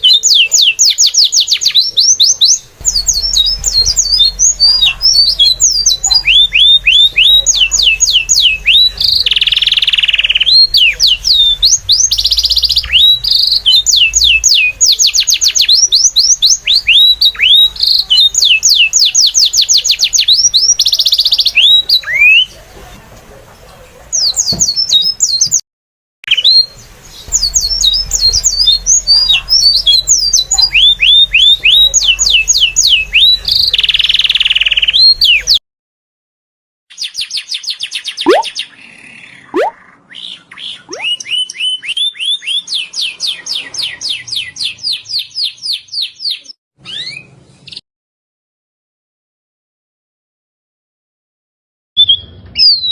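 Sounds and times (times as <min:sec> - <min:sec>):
bird chirping: 0:00.0 - 0:22.7, 0:23.5 - 0:25.6, 0:26.3 - 0:35.6, 0:36.9 - 0:47.8.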